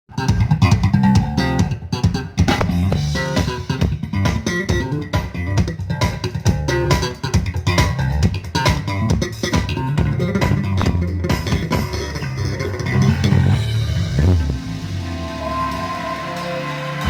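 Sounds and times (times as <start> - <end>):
loud music through sound system: 2.5 - 17.0.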